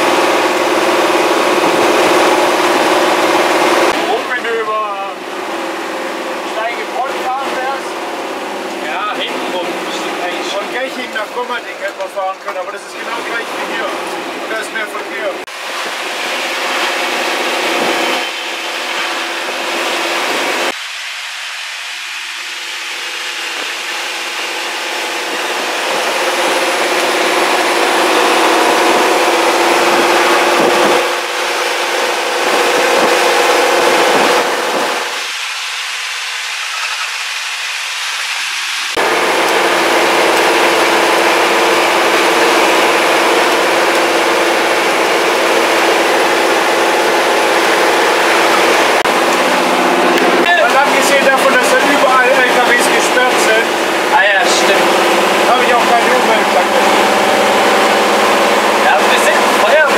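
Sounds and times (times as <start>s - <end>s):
fire truck engine and road noise: 0.0s - 59.9s.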